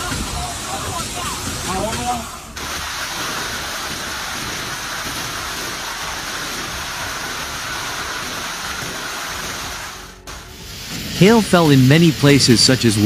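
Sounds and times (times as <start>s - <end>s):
heavy rain downpour: 0.0s - 13.0s.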